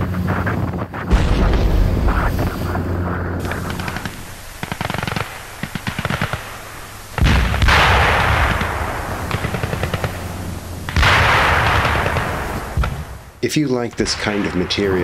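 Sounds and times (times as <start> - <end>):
heavy explosions: 0.0 - 15.0
machine-gun fire: 1.0 - 13.4.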